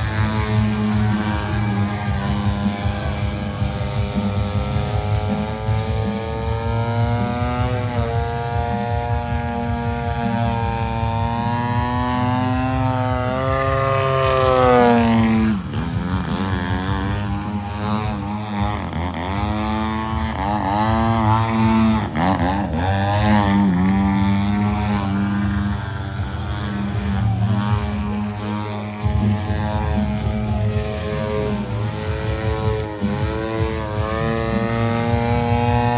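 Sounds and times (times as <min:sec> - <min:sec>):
model airplane engine and propeller: 0:00.0 - 0:35.9.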